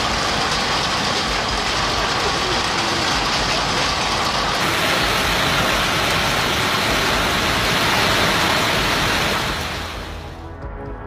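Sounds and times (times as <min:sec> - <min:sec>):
heavy hail and rain: 0:00.0 - 0:10.4.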